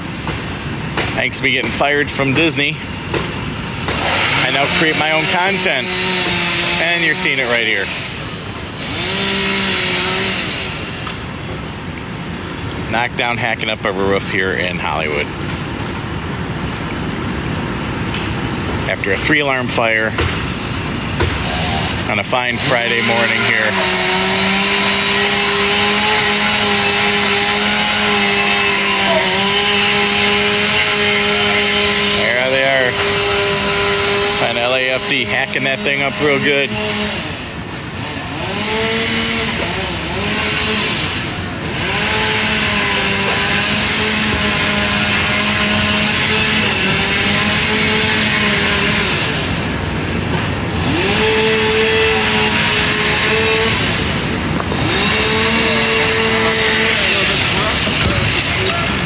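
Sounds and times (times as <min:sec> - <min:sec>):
demolition work noise: 0:00.0 - 0:59.0
gas-powered saw cutting: 0:00.0 - 0:59.0
large engine running: 0:00.0 - 0:59.0.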